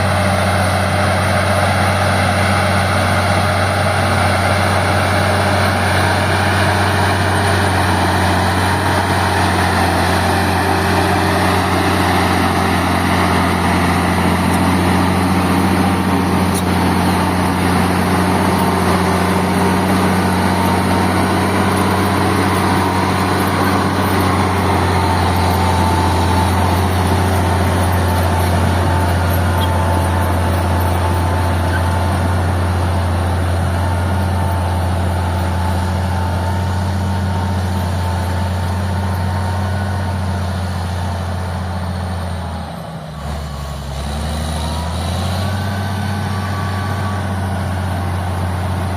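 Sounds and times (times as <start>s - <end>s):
diesel engine rumbling: 0.0s - 48.9s.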